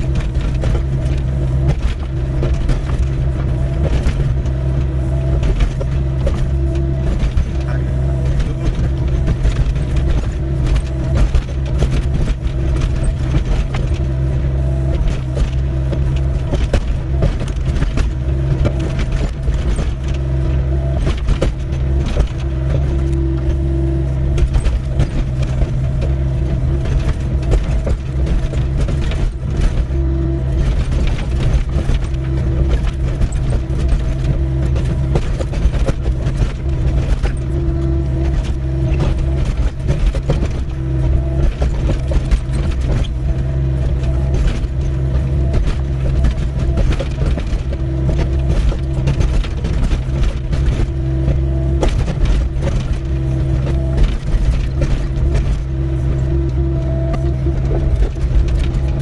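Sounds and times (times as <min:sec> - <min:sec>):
bucket clanking and scraping: 0:00.0 - 0:59.0
excavator diesel engine running: 0:00.0 - 0:59.0.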